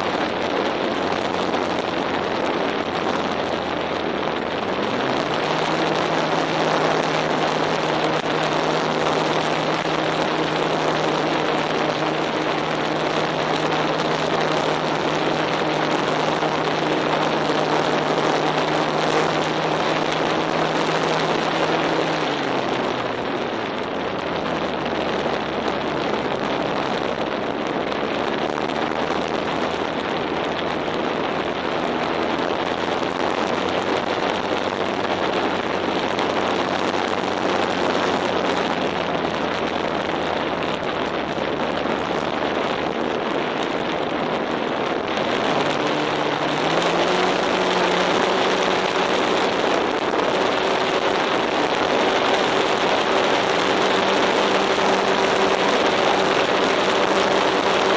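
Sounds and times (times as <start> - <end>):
electric motor and propeller hum: 0.0 - 57.9
wind rush over camera: 0.0 - 57.9.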